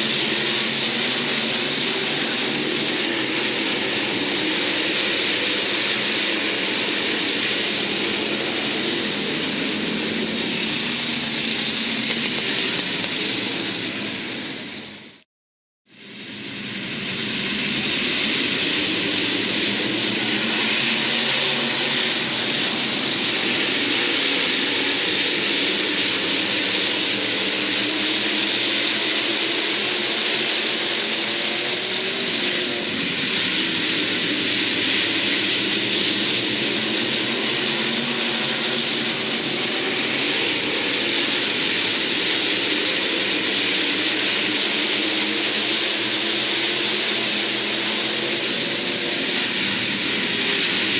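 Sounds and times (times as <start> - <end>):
race car engines roaring: 0.0 - 15.2, 16.0 - 50.9.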